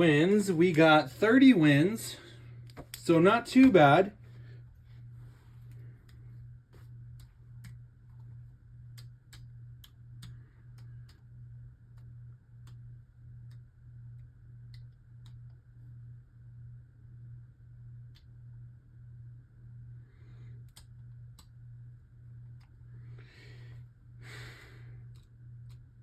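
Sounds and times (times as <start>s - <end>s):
pulsing low hum: 0.0s - 26.0s.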